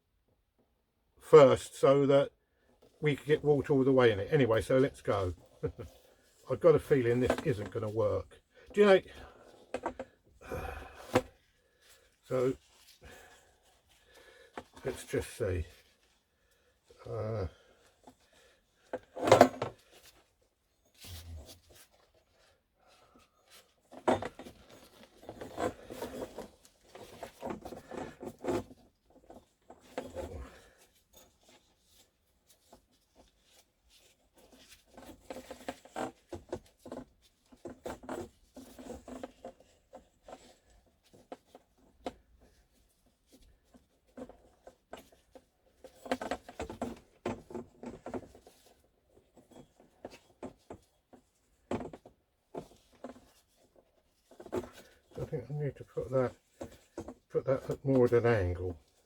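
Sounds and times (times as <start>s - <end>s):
wrap strip rubbing and rustling: 2.9s - 59.0s.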